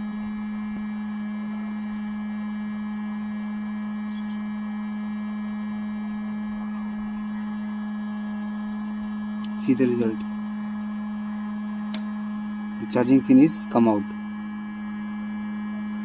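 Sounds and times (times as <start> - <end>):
small motor humming: 0.0 - 16.0.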